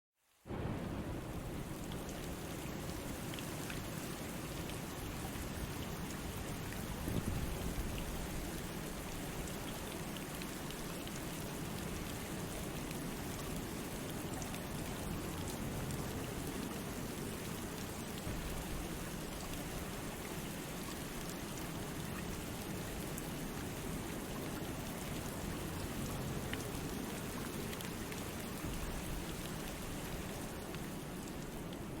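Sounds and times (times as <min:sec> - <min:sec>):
rain falling on a lake: 0:00.2 - 0:32.0.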